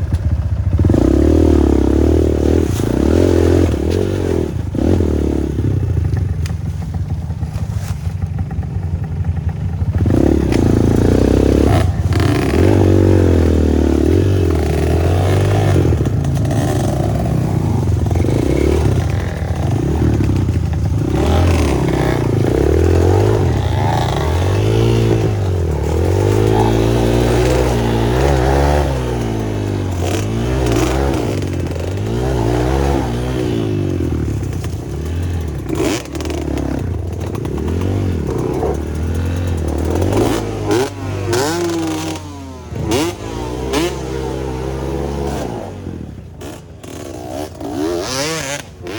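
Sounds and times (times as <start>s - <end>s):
two-stroke dirt bike engine revving: 0.0s - 48.9s.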